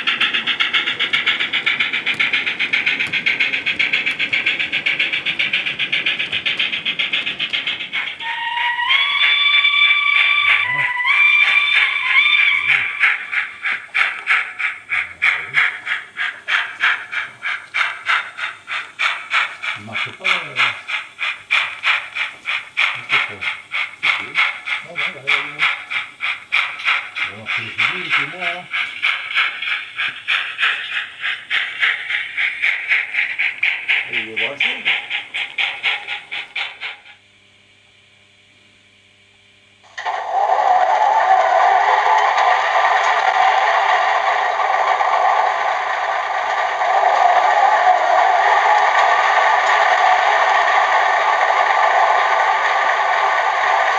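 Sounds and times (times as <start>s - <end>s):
steam locomotive exhaust chuffs: 0.0s - 38.4s, 39.5s - 53.9s.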